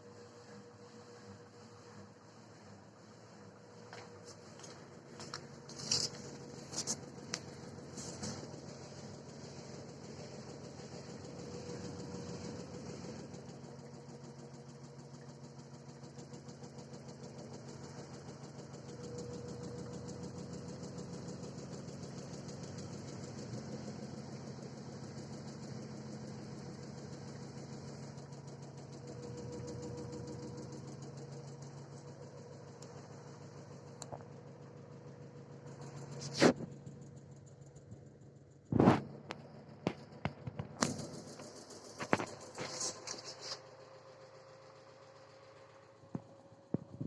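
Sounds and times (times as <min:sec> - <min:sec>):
washing machine spin hum: 0:00.0 - 0:47.0.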